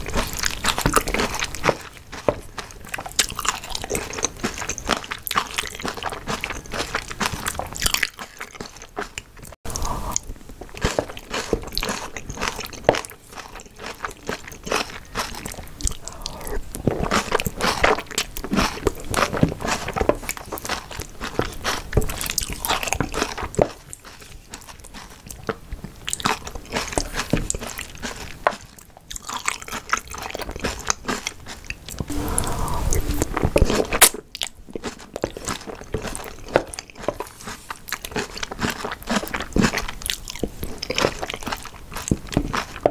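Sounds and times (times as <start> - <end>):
wet sticky chewing: 0.0 - 32.1, 33.1 - 42.9.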